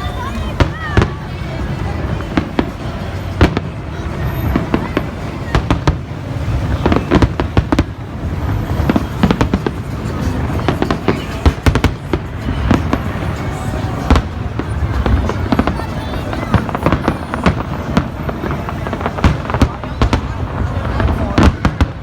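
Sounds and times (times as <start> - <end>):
continuous rumble: 0.0 - 22.0
fireworks bangs and crackles: 0.0 - 22.0.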